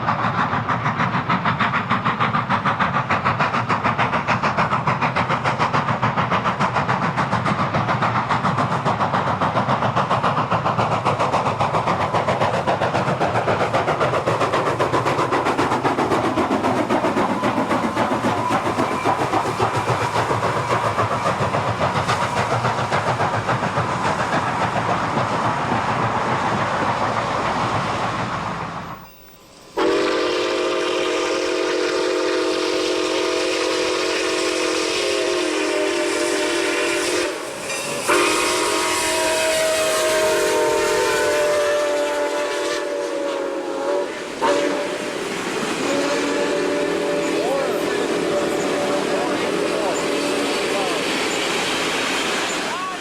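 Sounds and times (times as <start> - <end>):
steam locomotive exhaust beating: 0.0 - 53.0
train clattering on rails: 0.0 - 53.0.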